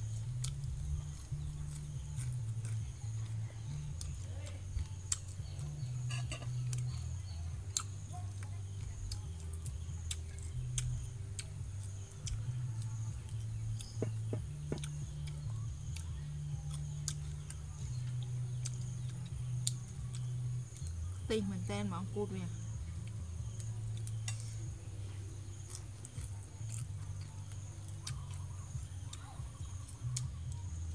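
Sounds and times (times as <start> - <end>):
crunching and chewing: 0.0 - 21.2, 22.6 - 30.9
insects droning: 0.0 - 30.9
low steady hum: 0.0 - 30.9.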